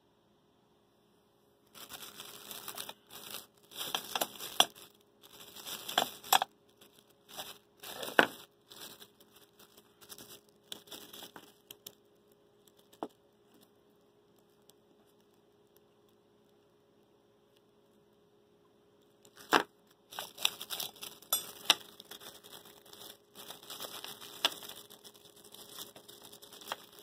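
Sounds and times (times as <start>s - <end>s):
plastic wrap crinkling: 1.7s - 16.0s, 19.1s - 27.0s.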